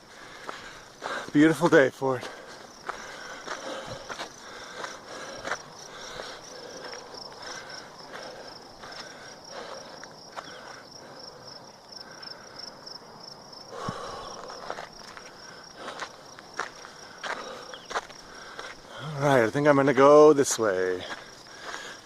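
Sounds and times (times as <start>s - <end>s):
bare footsteps on trail: 0.0s - 12.1s, 13.8s - 22.0s
insects trilling: 0.0s - 22.0s.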